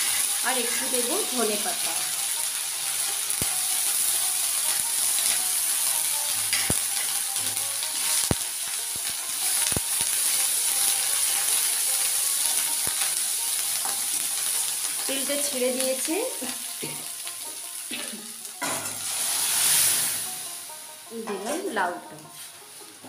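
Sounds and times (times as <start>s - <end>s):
spices sizzling in oil: 0.0s - 23.0s.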